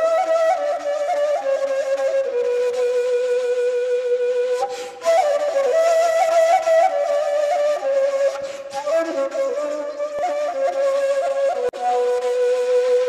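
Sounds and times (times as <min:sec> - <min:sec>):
flute-like melody: 0:00.0 - 0:13.0.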